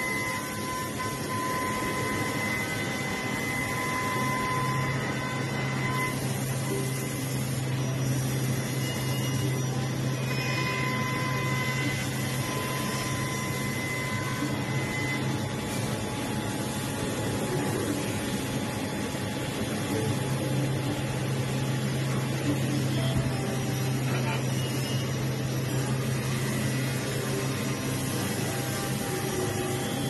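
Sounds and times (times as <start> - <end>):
high whine of spindle motors: 0.0 - 30.0
woodworking machine humming: 0.0 - 30.0.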